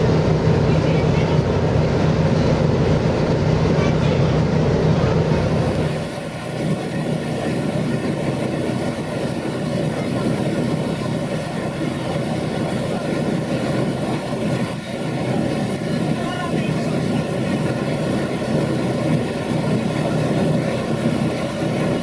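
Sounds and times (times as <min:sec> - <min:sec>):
boat engine drone: 0:00.0 - 0:22.0
water and wind rushing: 0:00.0 - 0:22.0.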